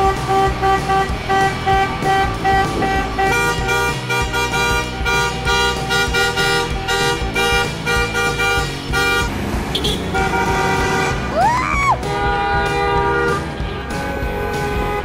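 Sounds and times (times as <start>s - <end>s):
car horns honking: 0.0s - 11.4s, 12.0s - 15.0s.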